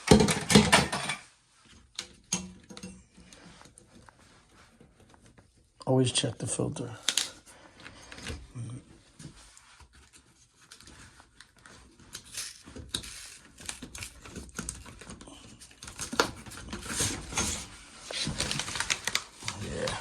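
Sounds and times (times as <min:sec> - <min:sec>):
air filter crinkling and scraping: 0:00.0 - 0:20.0.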